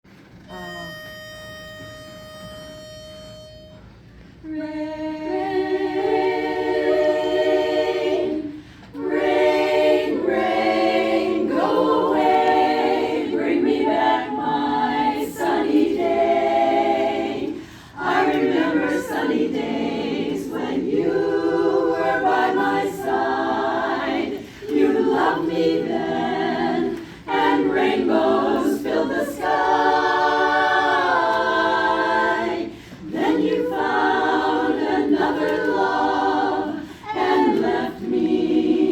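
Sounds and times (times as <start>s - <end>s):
choir singing a cappella: 4.4s - 38.9s.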